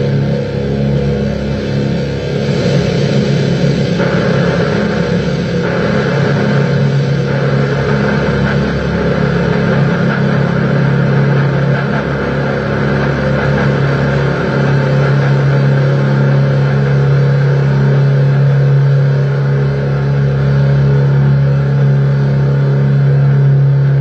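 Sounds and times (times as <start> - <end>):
low two-tone drone: 0.0 - 24.0.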